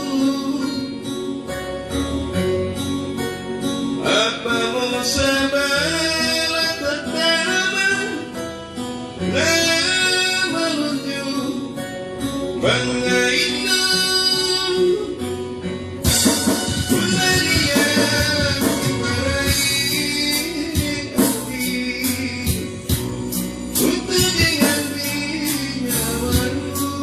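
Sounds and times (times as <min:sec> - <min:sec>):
person singing: 0:00.0 - 0:01.3, 0:04.0 - 0:08.5, 0:09.2 - 0:11.9, 0:12.6 - 0:15.4, 0:16.0 - 0:27.0
guitar accompaniment: 0:00.0 - 0:27.0.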